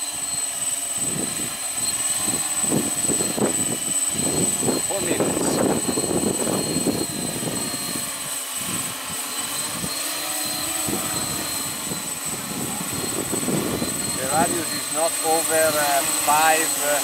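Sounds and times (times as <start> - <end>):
drone motors humming: 0.0 - 17.0
wind buffeting microphone: 0.9 - 16.8.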